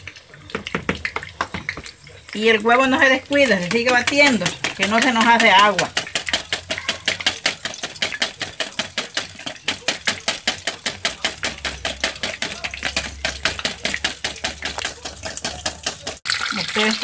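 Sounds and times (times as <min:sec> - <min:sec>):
egg beaten in a bowl: 0:00.0 - 0:17.0.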